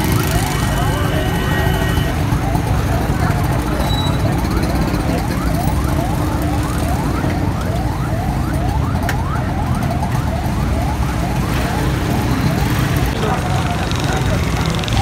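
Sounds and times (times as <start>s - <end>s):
crowd hubbub: 0.0s - 15.0s.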